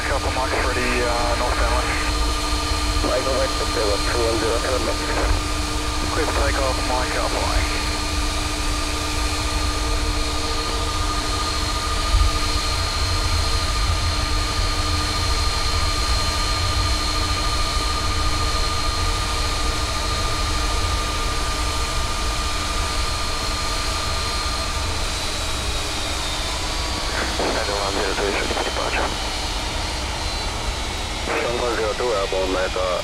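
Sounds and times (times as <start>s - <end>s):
jet engines idling: 0.0s - 33.0s.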